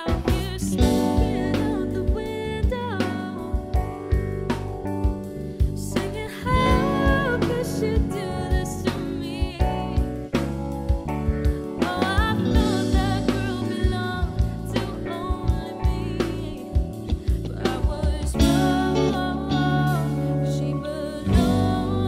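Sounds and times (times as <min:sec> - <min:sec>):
woman singing with vibrato: 0:00.0 - 0:03.8, 0:05.8 - 0:10.1, 0:11.8 - 0:22.0
drum kit: 0:00.0 - 0:22.0
electric bass: 0:00.0 - 0:22.0.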